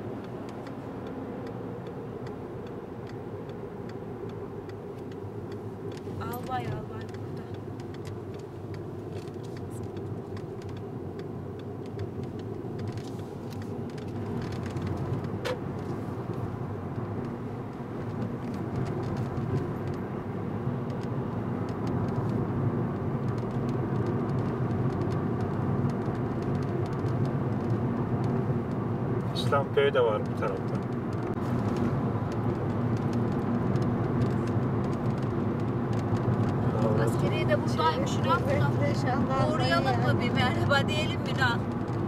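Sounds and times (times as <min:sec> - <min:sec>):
car engine and tyre rumble: 0:00.0 - 0:42.0.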